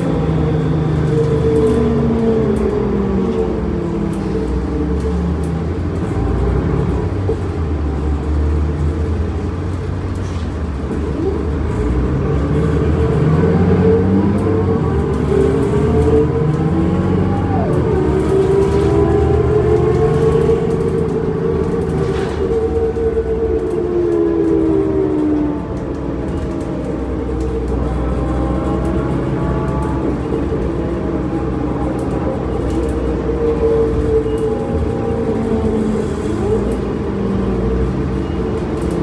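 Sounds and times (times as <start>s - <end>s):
bus diesel engine accelerating: 0.0s - 39.0s.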